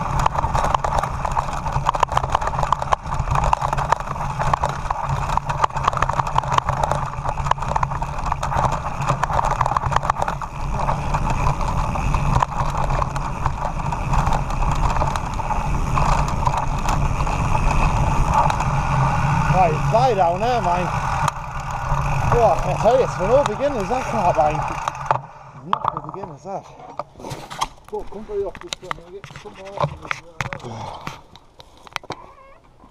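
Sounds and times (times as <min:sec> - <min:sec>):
bike rattling and clattering: 0:00.0 - 0:32.9
tyres crunching over loose stones: 0:00.0 - 0:32.9.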